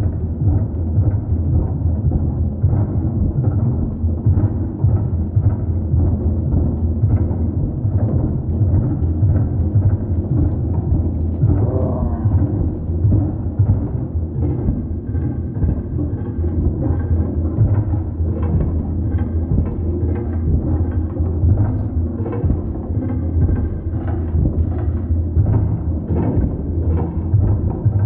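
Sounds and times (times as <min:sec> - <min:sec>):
heavy low rumble: 0:00.0 - 0:28.0
rhythmic drumming: 0:00.0 - 0:28.0.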